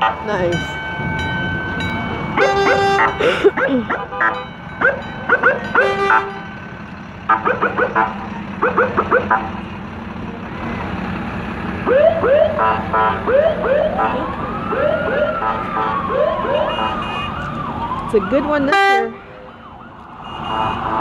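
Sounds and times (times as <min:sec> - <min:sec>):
emergency siren: 0:00.0 - 0:09.8, 0:11.8 - 0:21.0.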